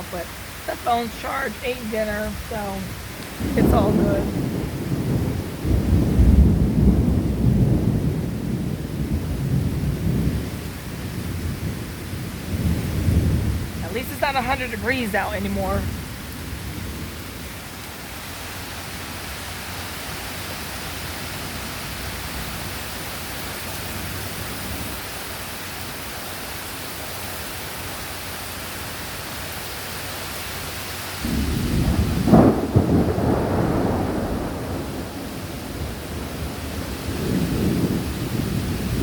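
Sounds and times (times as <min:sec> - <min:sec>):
thunderclap rumbling: 0:00.0 - 0:30.2, 0:31.0 - 0:39.0
heavy rain pouring: 0:00.0 - 0:39.0.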